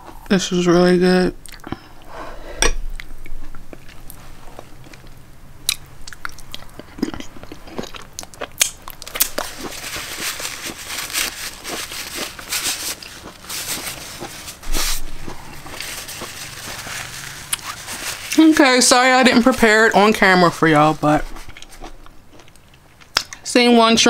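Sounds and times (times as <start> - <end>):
person chewing crunchy food: 2.7 - 18.4, 19.3 - 23.4.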